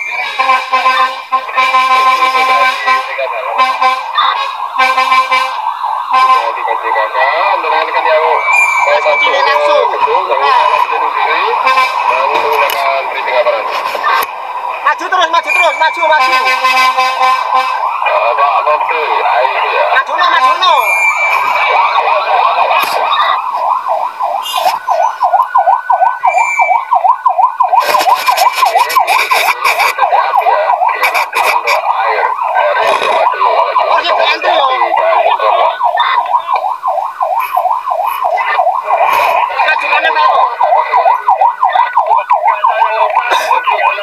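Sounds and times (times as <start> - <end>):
fire truck siren yelping: 0.0 - 44.0.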